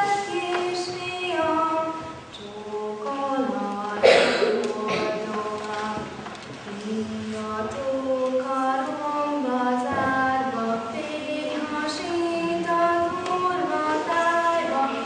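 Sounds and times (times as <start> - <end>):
woman singing slow melody: 0.0 - 15.0.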